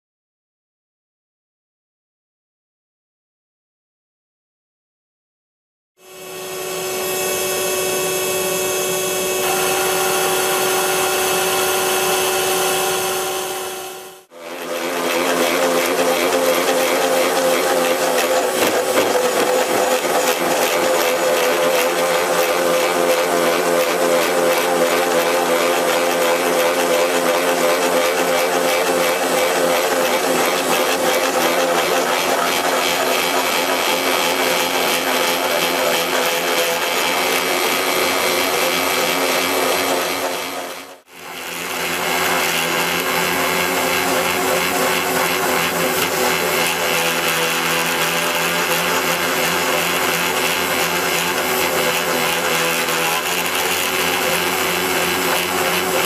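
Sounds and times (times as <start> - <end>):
magnetic drill cutting steel: 6.1 - 56.0.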